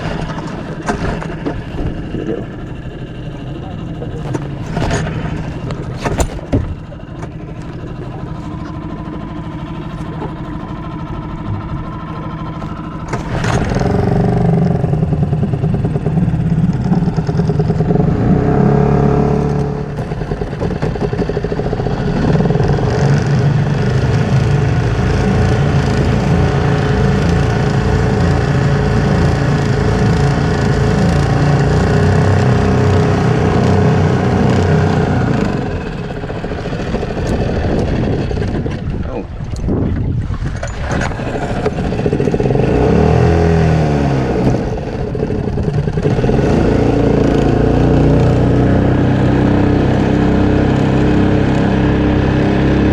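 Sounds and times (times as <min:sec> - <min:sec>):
outboard motor running: 0:00.0 - 0:52.9.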